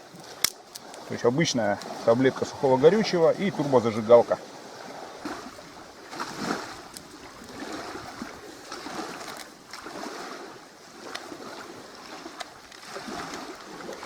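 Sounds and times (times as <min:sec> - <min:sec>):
water lapping: 0:00.0 - 0:14.0.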